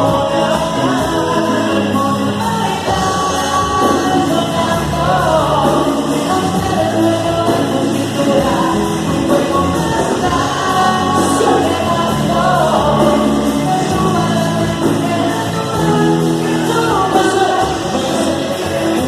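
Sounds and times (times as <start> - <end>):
band playing with lead vocal: 0.0 - 19.0.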